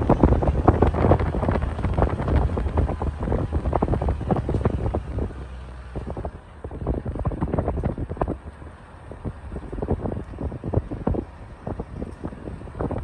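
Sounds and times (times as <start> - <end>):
car rumbling on road: 0.0 - 13.0
wind buffeting microphone: 0.0 - 13.0.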